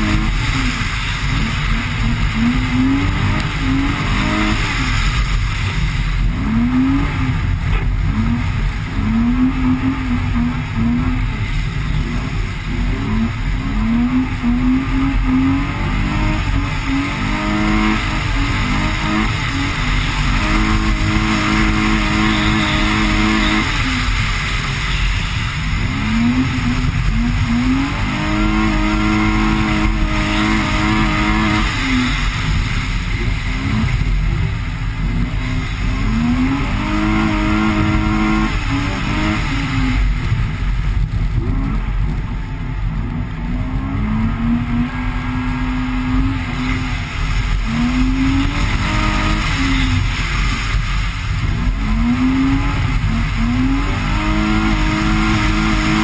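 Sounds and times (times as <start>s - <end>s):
car engine revving: 0.0s - 56.0s
road and tyre rumble: 0.0s - 56.0s.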